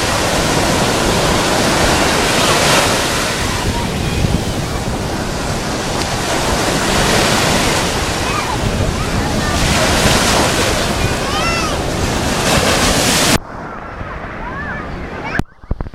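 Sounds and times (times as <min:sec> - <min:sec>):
small waves breaking on sand: 0:00.0 - 0:15.4.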